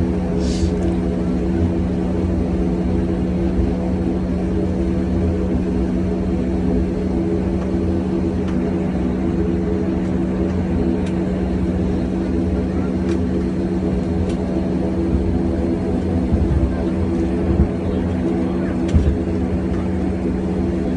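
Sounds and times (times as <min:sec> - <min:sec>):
airliner cabin drone: 0:00.0 - 0:20.9.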